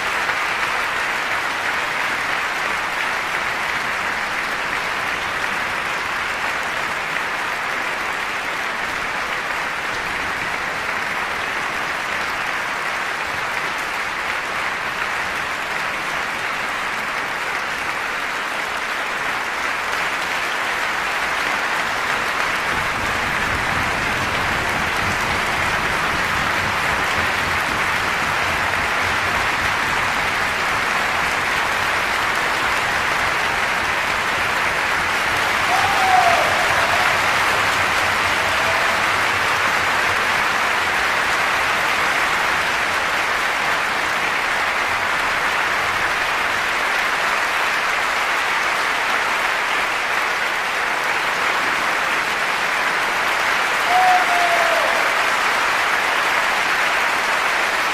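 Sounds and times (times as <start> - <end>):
audience applauding: 0.0 - 57.9.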